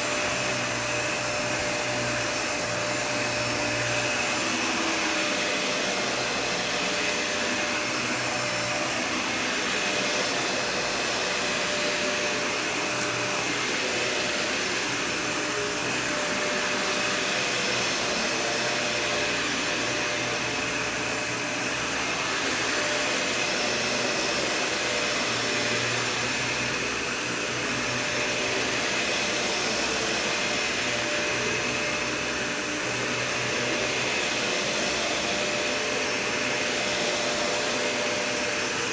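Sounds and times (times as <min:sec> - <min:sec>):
upright vacuum running: 0:00.0 - 0:38.9.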